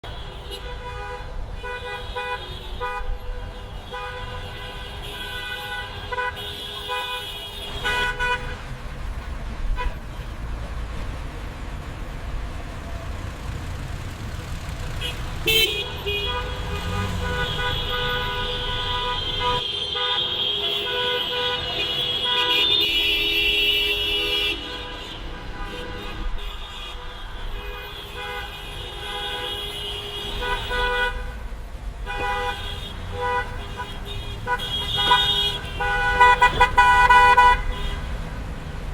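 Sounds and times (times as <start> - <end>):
car horns honking: 0.0 - 38.3
low rumble of traffic: 0.0 - 38.9.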